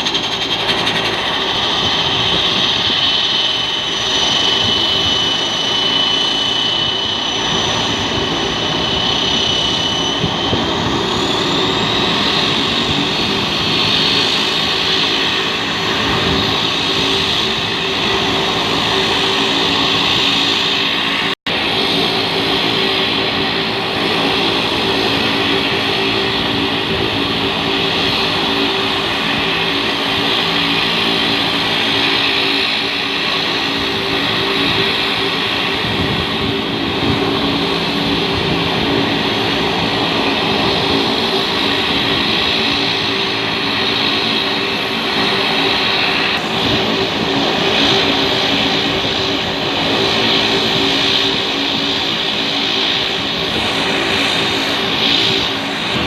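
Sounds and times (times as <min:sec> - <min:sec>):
aircraft engines running: 0:00.0 - 0:56.0.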